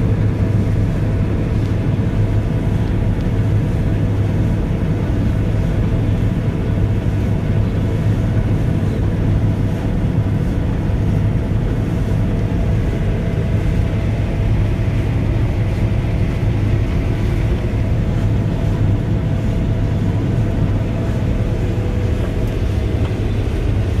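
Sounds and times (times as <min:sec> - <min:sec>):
combine harvester engine drone: 0:00.0 - 0:24.0
faint steady whine: 0:00.0 - 0:24.0.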